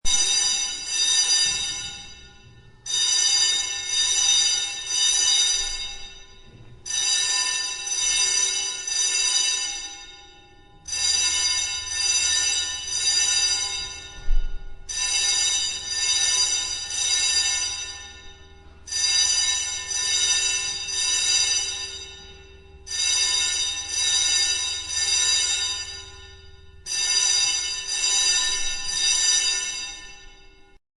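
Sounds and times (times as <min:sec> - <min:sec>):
fire alarm ringing: 0:00.0 - 0:30.8.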